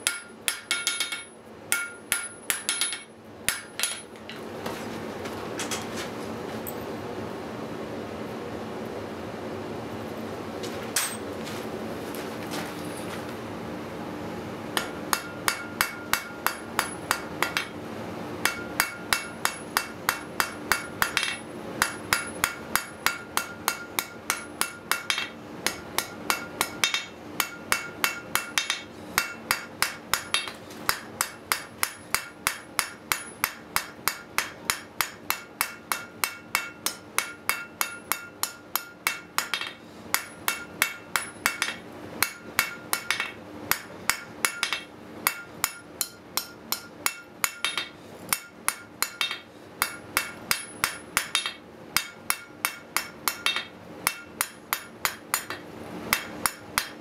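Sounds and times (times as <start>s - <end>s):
hammer striking steel on anvil: 0.0s - 4.2s, 14.8s - 17.8s, 18.4s - 57.0s.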